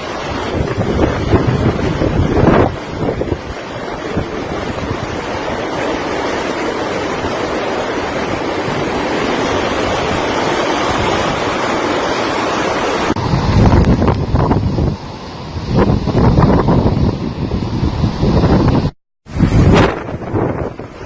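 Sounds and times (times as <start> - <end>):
strong wind: 0.0 - 21.0
surf: 0.0 - 21.0
wind on microphone: 0.0 - 21.0.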